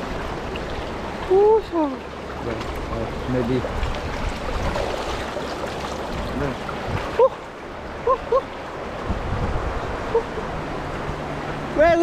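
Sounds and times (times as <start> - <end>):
stream water over rocks: 0.0 - 12.0.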